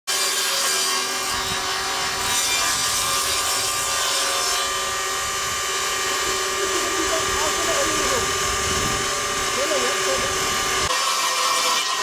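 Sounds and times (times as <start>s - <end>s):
saw cutting board: 0.1s - 12.0s.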